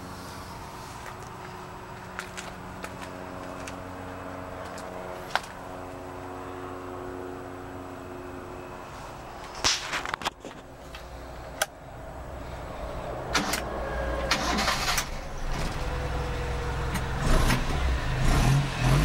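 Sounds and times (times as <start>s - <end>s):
steady hum: 0.0s - 18.2s.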